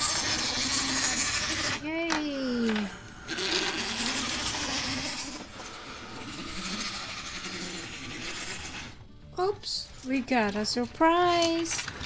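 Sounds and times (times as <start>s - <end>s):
wind-up toy car motor whirring: 0.0s - 9.3s, 10.0s - 12.0s.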